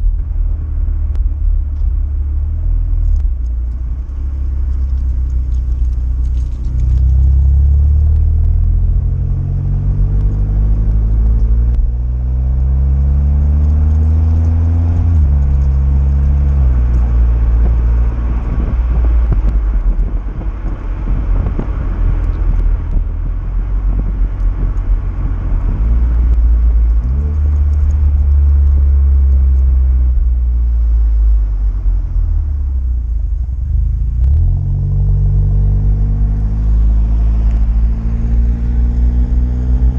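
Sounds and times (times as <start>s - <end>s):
car exhaust while driving: 0.0s - 39.9s.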